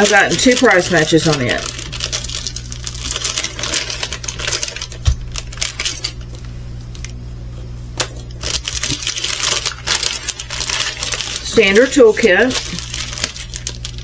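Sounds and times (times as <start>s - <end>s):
plastic packets clicking and crinkling: 0.0s - 7.2s, 8.0s - 14.0s
steady low hum: 0.0s - 14.0s.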